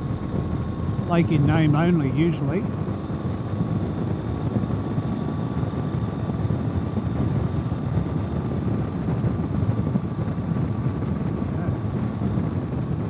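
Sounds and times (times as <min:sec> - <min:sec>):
motorcycle engine running: 0:00.0 - 0:13.0
riding wind rush: 0:00.0 - 0:13.0.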